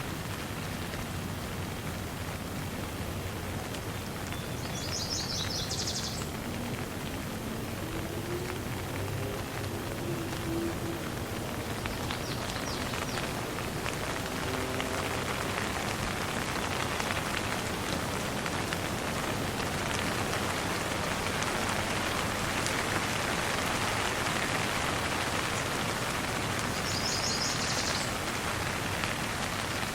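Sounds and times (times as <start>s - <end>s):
light rain falling: 0.0s - 29.9s.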